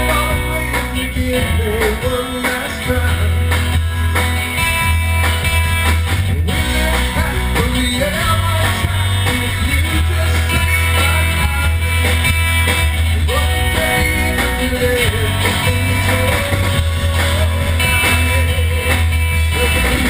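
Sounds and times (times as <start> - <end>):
person singing: 0.0 - 3.6, 6.4 - 12.2, 13.2 - 20.0
bass guitar: 0.0 - 20.0
drum kit: 0.0 - 20.0
electric guitars: 0.0 - 20.0.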